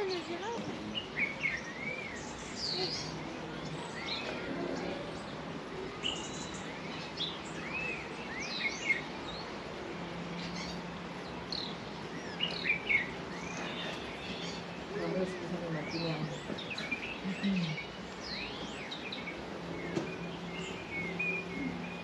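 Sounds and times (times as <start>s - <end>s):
outdoor background noise: 0.0s - 22.0s
small birds chirping: 0.0s - 22.0s.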